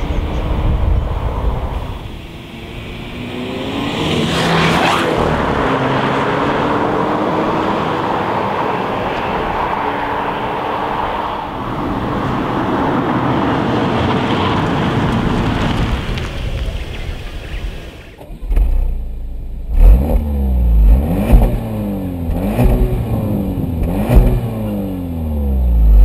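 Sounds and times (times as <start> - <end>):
car engine accelerating: 0.0 - 15.7, 18.4 - 26.0.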